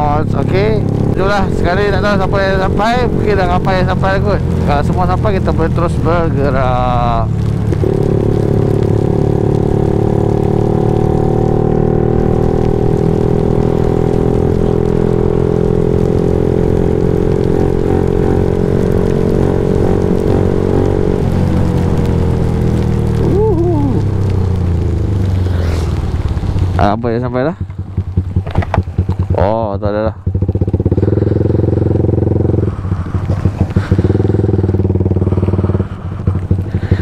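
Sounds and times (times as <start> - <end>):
rain hiss: 0.0 - 29.4, 30.3 - 37.0
motorcycle engine running: 0.0 - 37.0.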